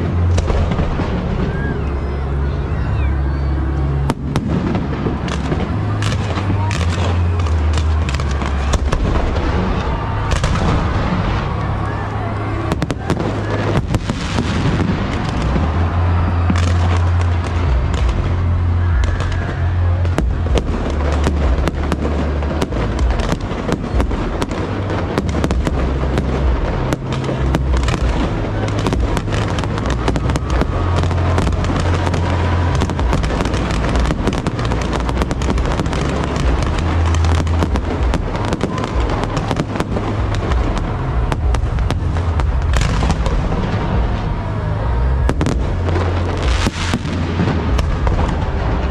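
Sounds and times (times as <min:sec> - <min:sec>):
fireworks crackles and bangs: 0:00.0 - 0:48.9.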